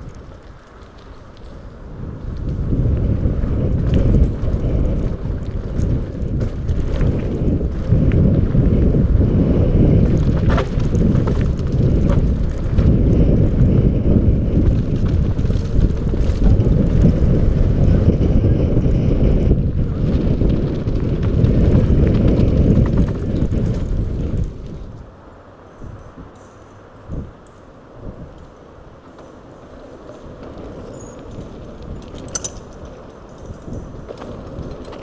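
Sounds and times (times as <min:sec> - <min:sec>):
bike clicks and rattles: 0:00.0 - 0:25.1, 0:25.8 - 0:35.0
bike tyre noise: 0:00.0 - 0:35.0
wind buffeting microphone: 0:00.0 - 0:35.0.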